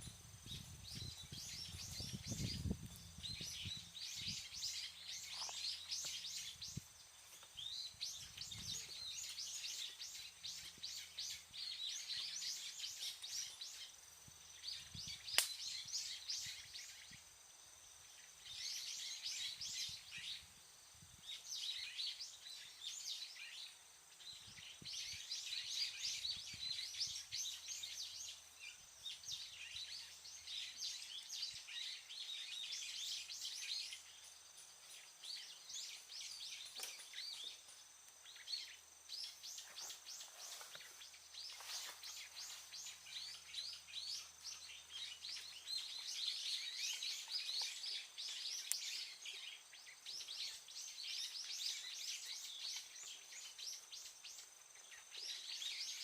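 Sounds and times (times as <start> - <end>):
birds chirping: 0.0 - 20.6, 21.2 - 56.0.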